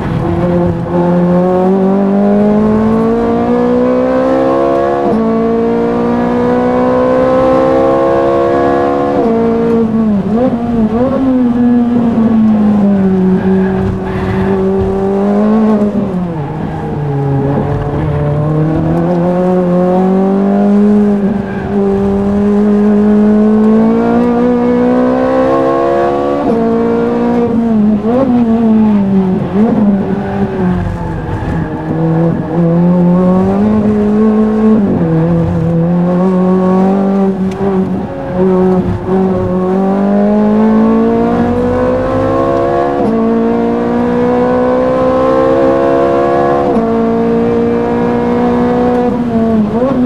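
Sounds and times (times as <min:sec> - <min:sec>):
racing car engine revving: 0:00.0 - 0:50.0.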